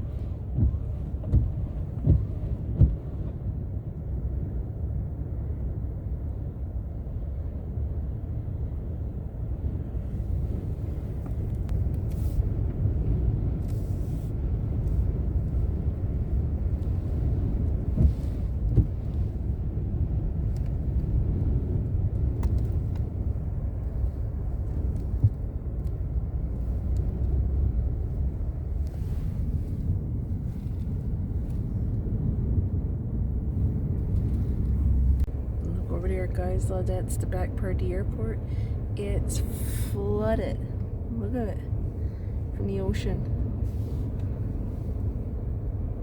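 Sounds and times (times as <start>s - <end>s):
truck cab running rumble: 0.0s - 46.0s
wind buffeting truck: 0.0s - 46.0s.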